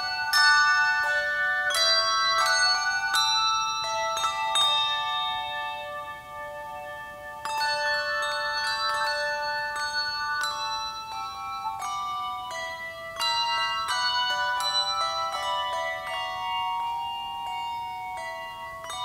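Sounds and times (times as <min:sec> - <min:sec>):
handbells ringing chords: 0:00.0 - 0:19.0.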